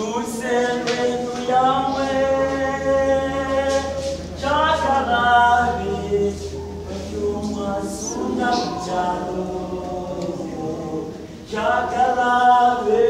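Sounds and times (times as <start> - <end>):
choir singing in harmony: 0.0 - 13.0.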